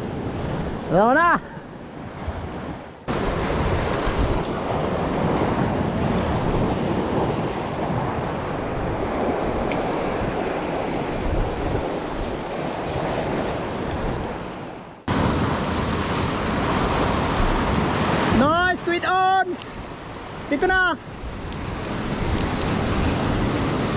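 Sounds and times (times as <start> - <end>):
sea surf breaking over rocks: 0.0 - 23.9
wind buffeting microphone: 0.0 - 23.9.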